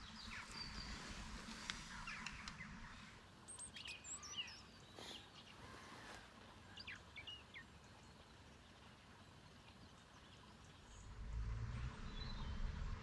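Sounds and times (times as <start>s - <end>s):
songbirds chirping faintly: 0.0s - 13.0s.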